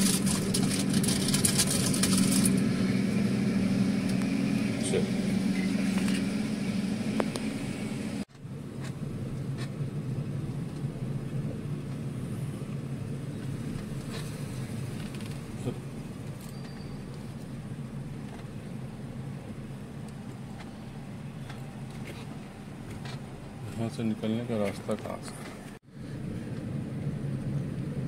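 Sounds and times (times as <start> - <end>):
car engine and road hum: 0.0 - 28.0.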